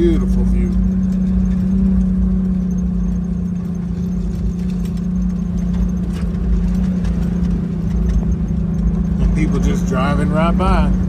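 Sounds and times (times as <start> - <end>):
car engine droning: 0.0 - 11.0
light clicks and rattles: 0.0 - 11.0.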